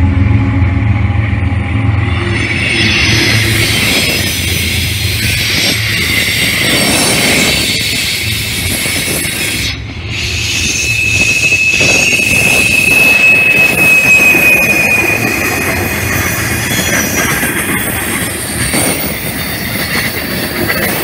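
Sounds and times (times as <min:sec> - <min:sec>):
steel wheels rumbling on rail: 0:00.0 - 0:21.0
high wheel squeal: 0:01.7 - 0:21.0.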